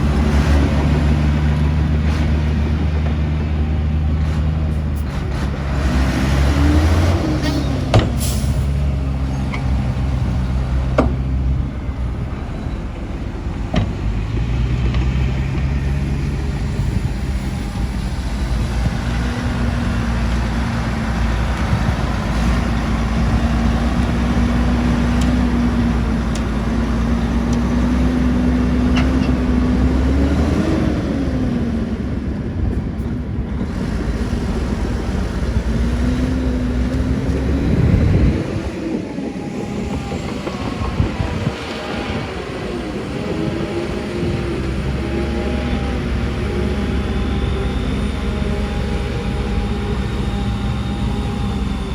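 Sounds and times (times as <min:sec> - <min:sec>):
heavy machinery diesel engines: 0:00.0 - 0:51.9.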